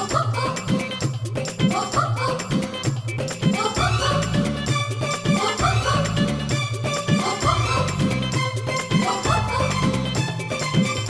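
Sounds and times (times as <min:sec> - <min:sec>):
upbeat film song with steady beat: 0:00.0 - 0:11.0.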